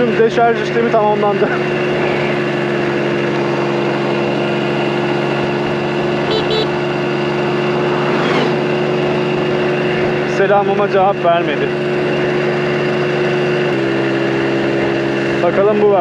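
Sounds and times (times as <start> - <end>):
scooter engine running: 0.0 - 16.0
wind and road noise: 0.0 - 16.0.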